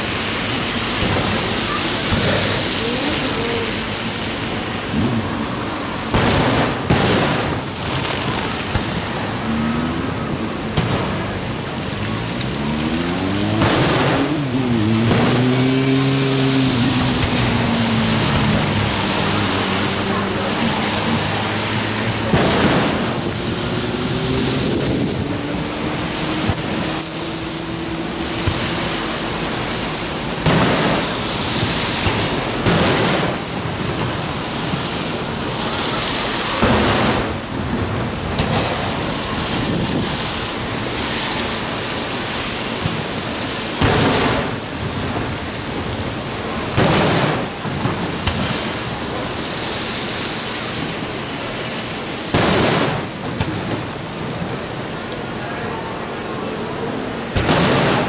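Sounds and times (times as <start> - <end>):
fireworks booming: 0.0 - 58.0
steady background rush: 0.0 - 58.0.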